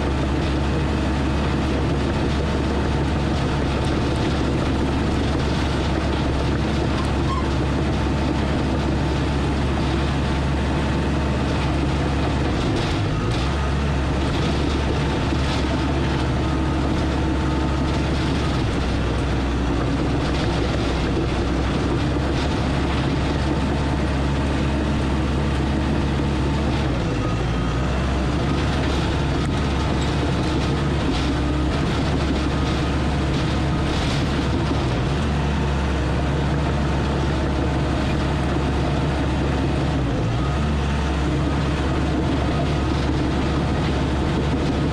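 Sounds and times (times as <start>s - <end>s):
earthmoving machine diesel engine: 0.0s - 44.9s.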